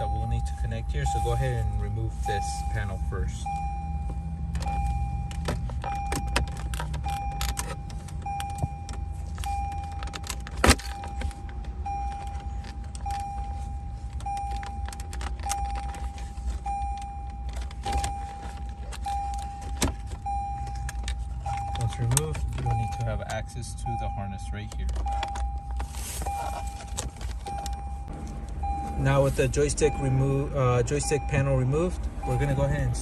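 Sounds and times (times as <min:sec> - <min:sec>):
car warning chime beeping: 0:00.0 - 0:33.0.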